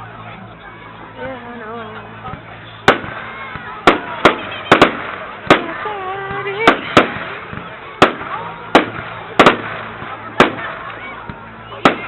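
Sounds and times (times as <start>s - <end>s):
fireworks bangs: 2.3s - 12.0s.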